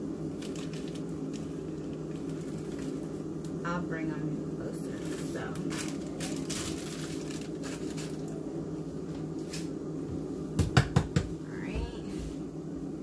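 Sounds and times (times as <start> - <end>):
air fryer humming: 0.0 - 13.0.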